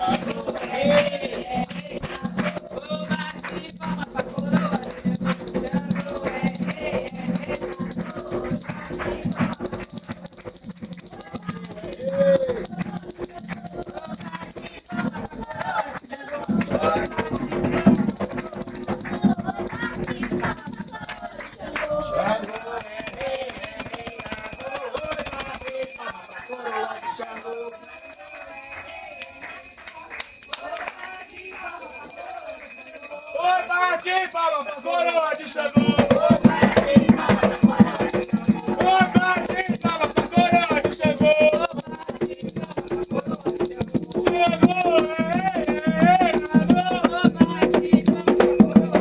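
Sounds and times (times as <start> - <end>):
fast percussion: 0.0 - 49.0
small bell ringing: 0.0 - 49.0
voices singing a chant: 0.0 - 49.0.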